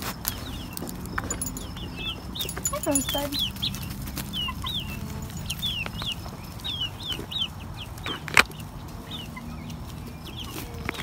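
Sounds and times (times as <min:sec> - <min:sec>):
chickens chirping: 0:00.2 - 0:11.0.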